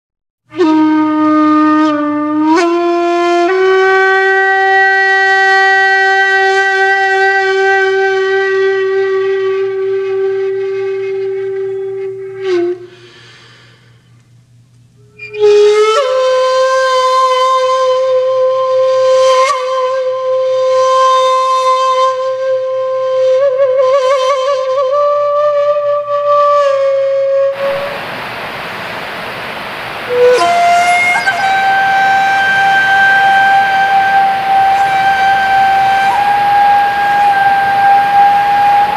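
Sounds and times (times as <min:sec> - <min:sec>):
wind instrument holding long notes: 0:00.5 - 0:14.0, 0:15.0 - 0:38.9.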